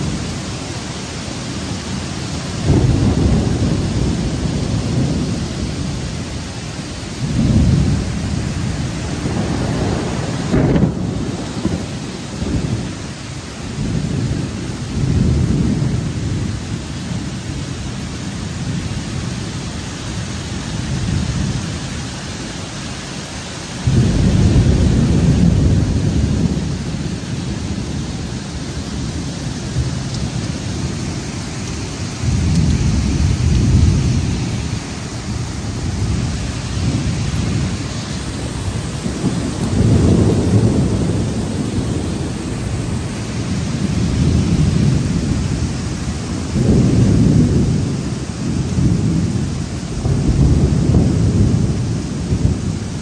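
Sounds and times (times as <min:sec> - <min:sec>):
thunder rumbling: 0:00.0 - 0:21.8, 0:23.6 - 0:53.0
heavy rain: 0:00.0 - 0:53.0.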